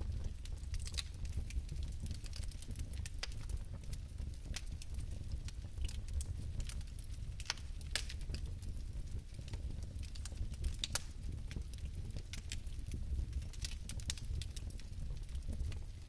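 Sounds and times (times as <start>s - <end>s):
fire crackling: 0.0s - 16.0s
fire rumbling in fireplace: 0.0s - 16.0s.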